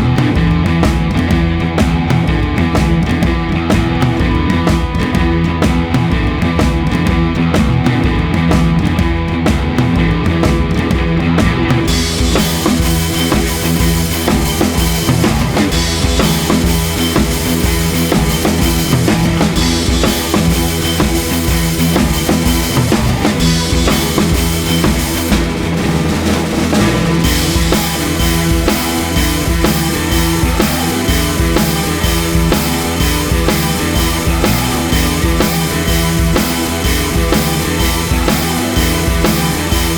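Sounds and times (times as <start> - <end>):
drum kit beat: 0.0 - 39.9
rock music: 0.0 - 39.9.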